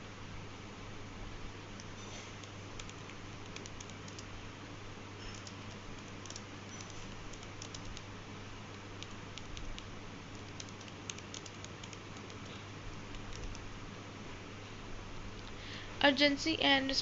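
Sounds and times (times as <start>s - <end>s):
background hiss: 0.0s - 17.0s
steady low hum: 0.0s - 17.0s.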